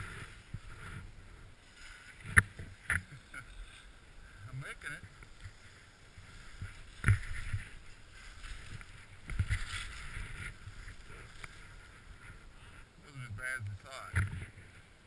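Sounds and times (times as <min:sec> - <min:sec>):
skis swishing through powder snow: 0:00.0 - 0:12.8.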